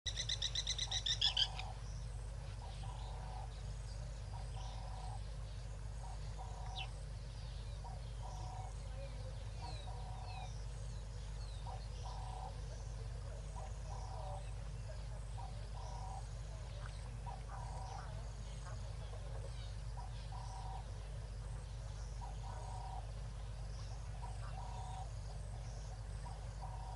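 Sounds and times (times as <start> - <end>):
faint bird chirps: 0.1 - 26.9
frogs croaking: 0.1 - 26.9
steady low rumble: 0.1 - 26.9.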